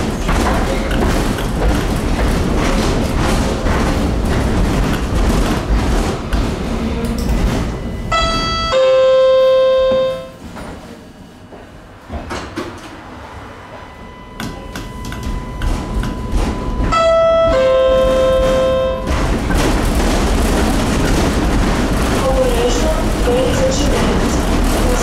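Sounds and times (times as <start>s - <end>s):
tram rumbling: 0.0s - 25.0s.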